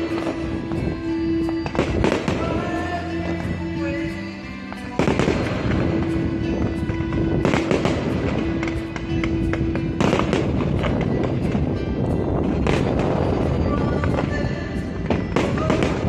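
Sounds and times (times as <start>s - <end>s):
fireworks popping and crackling: 0.0s - 16.0s
music playing: 0.0s - 16.0s.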